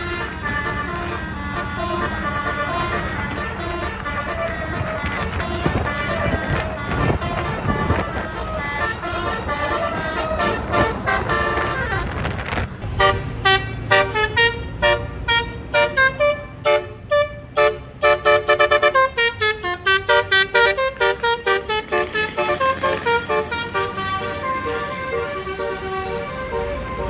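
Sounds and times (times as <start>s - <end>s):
bus air horn playing a tune: 0.0s - 27.0s.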